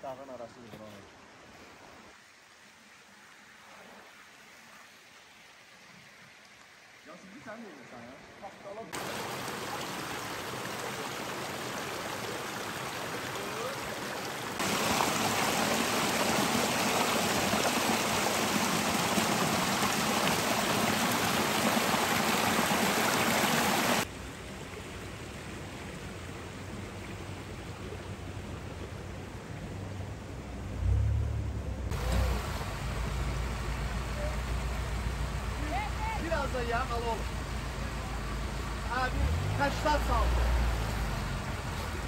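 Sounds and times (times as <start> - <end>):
stream rushing: 0.1 - 42.0.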